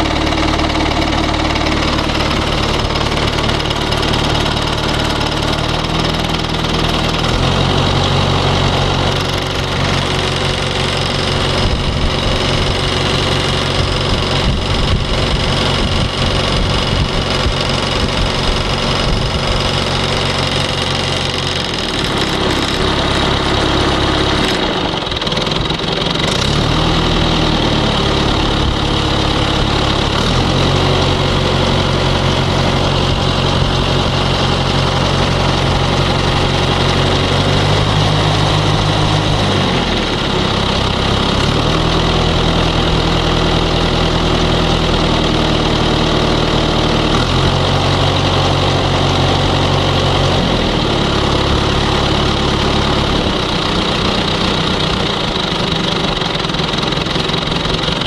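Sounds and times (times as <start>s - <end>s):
diesel engine running: 0.0s - 58.0s
rapid engine knocking: 0.0s - 58.0s.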